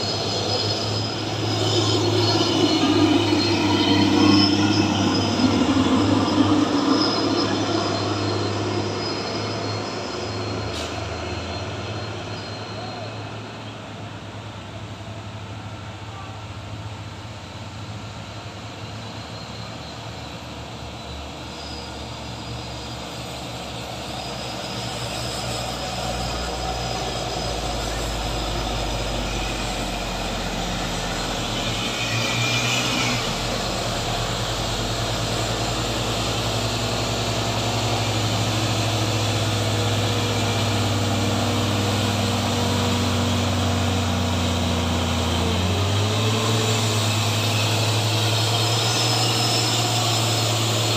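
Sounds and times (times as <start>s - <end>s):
truck diesel engines straining: 0.0s - 50.9s.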